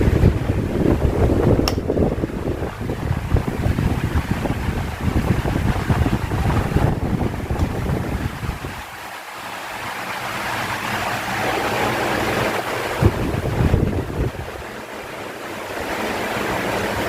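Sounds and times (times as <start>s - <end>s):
electric fan airflow rushing: 0.0s - 17.0s
faint motor hum: 0.0s - 17.0s
wind buffeting microphone: 0.0s - 17.0s.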